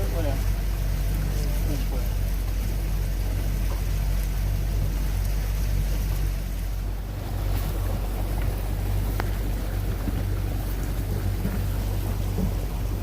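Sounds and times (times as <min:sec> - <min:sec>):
motorboat engine drone: 0:00.0 - 0:13.0
rushing water: 0:00.0 - 0:13.0
wind: 0:00.0 - 0:13.0.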